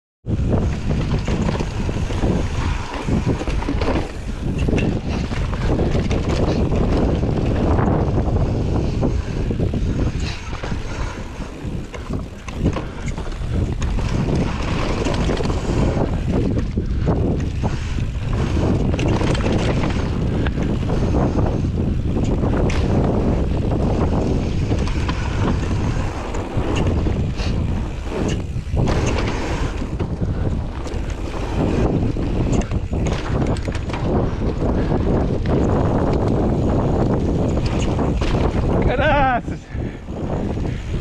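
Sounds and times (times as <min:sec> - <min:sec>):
wind on microphone: 0:00.2 - 0:41.0
tyres rolling on dirt: 0:00.3 - 0:21.6, 0:22.2 - 0:39.7
bike frame rattling: 0:00.3 - 0:41.0.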